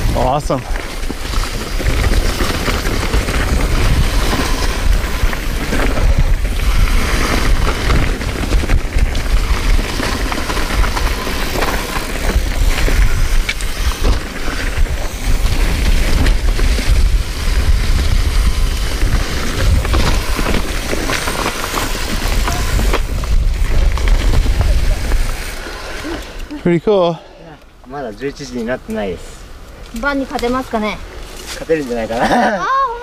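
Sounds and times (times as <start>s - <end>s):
wind buffeting microphone: 0.0s - 26.4s
tyre noise on dirt: 0.0s - 26.6s
bike rattling: 0.0s - 27.2s, 27.9s - 33.0s.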